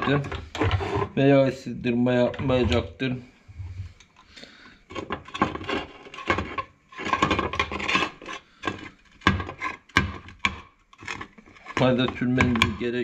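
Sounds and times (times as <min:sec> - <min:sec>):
rubbing and scraping on metal: 0:00.0 - 0:13.0.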